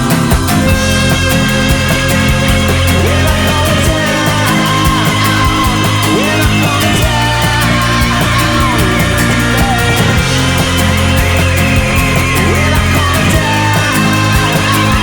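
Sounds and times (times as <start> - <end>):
distorted guitar lead: 0.0 - 15.0
loud rock music: 0.0 - 15.0.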